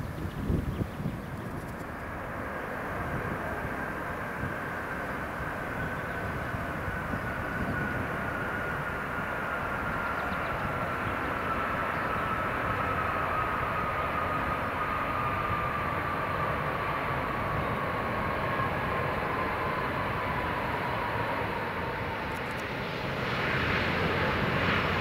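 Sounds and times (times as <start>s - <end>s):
jet engine roar: 0.0s - 25.0s
jet fan whine: 0.0s - 25.0s.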